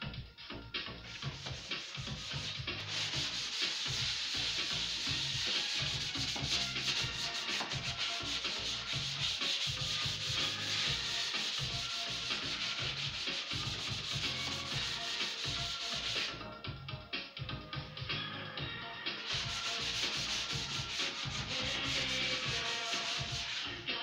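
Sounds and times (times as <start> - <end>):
sandpaper rasping on wood: 1.1 - 16.3, 19.2 - 23.8.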